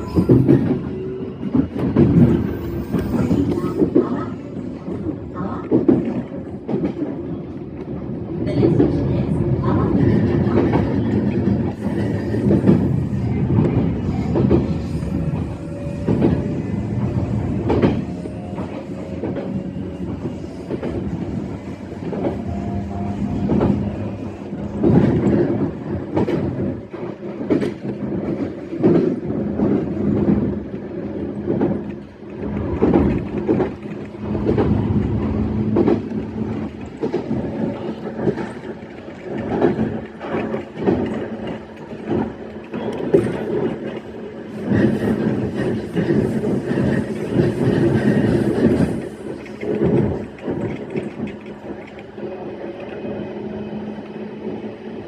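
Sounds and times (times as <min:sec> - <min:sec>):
electric train running: 0:00.0 - 0:55.0
wheels clacking over rail joints: 0:00.0 - 0:55.0.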